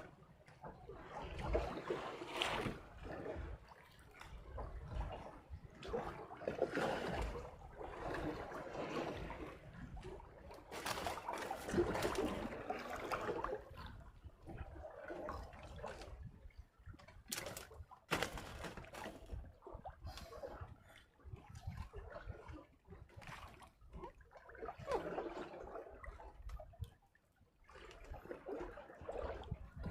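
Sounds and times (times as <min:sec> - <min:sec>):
water sloshing and trickling: 0:00.0 - 0:29.9.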